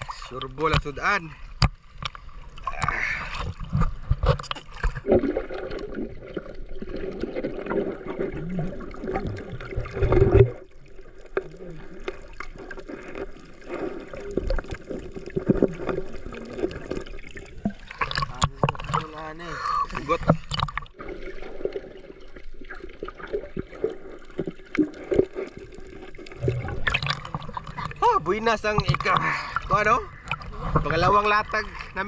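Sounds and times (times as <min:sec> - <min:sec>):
water splashing and sloshing: 0:00.0 - 0:32.0.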